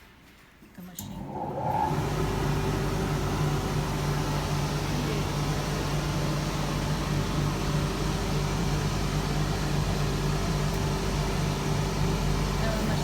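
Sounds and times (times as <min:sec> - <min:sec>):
dryer machine hum: 0:01.0 - 0:13.0.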